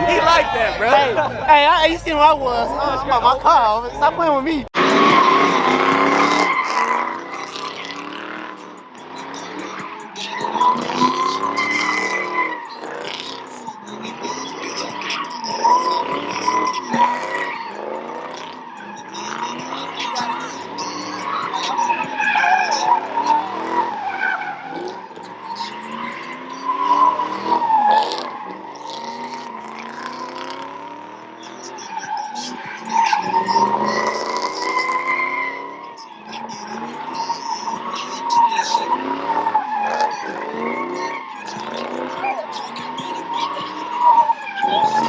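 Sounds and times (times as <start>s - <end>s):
car engine revving: 0.0s - 45.0s
tyres squealing: 0.0s - 45.0s.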